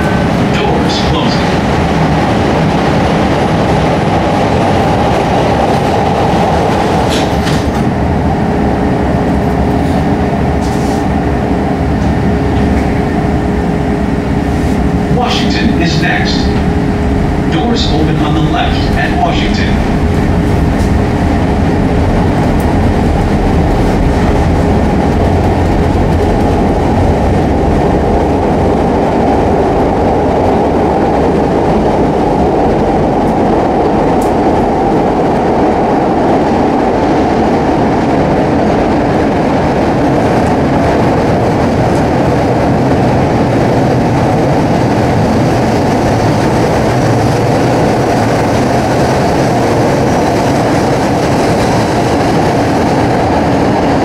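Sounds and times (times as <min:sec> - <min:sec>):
subway train rumbling in tunnel: 0:00.0 - 0:54.0.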